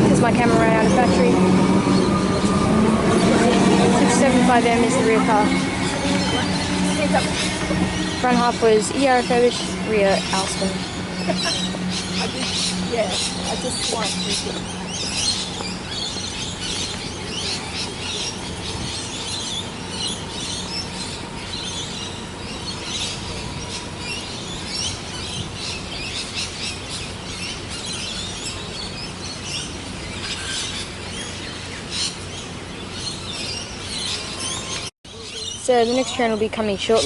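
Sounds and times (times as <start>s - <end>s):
small birds chirping: 1.8s - 37.0s.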